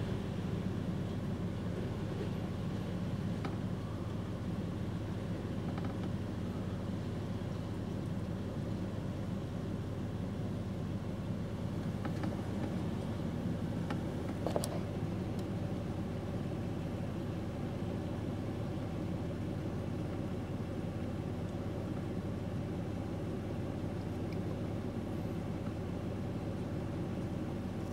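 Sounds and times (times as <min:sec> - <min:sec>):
engine running at low revs: 0:00.0 - 0:27.9.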